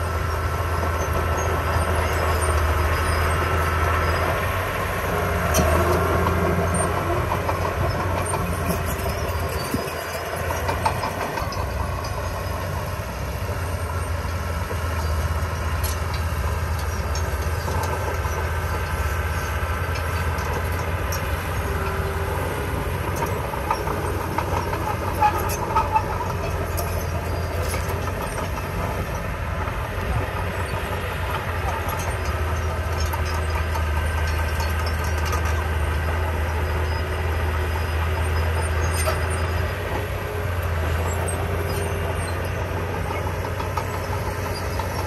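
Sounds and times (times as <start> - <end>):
bulldozer diesel engine running: 0.0 - 45.0
metallic clatter of tracks: 5.1 - 45.0.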